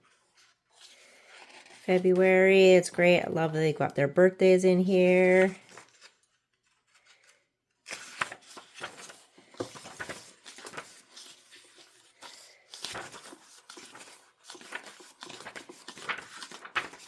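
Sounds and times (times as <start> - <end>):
paper pages turning: 0.1 - 2.9, 5.1 - 17.0.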